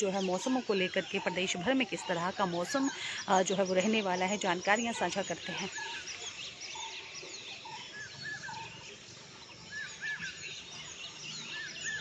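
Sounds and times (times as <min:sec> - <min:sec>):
birds chirping: 0:00.0 - 0:12.0
faint outdoor background noise: 0:00.0 - 0:12.0.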